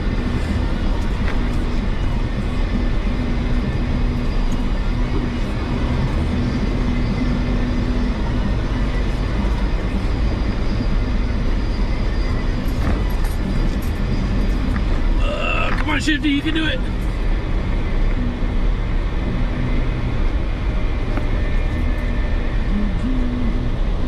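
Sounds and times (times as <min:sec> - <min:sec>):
engine rumbling under load: 0:00.0 - 0:24.0.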